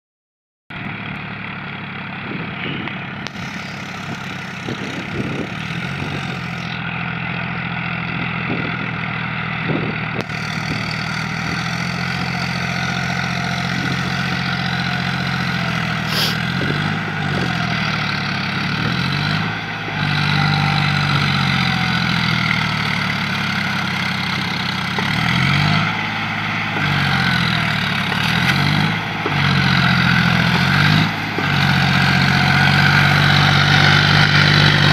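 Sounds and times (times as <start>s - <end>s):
diesel tractor engine running: 0.7s - 34.9s.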